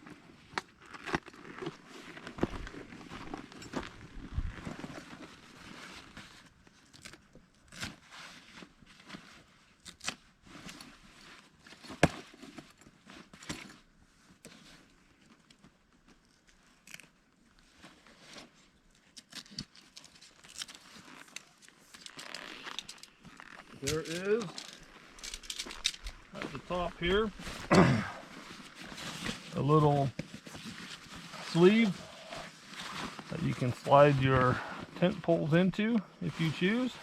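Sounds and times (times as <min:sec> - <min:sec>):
canvas tent rustling: 0:00.0 - 0:07.0, 0:08.0 - 0:37.0.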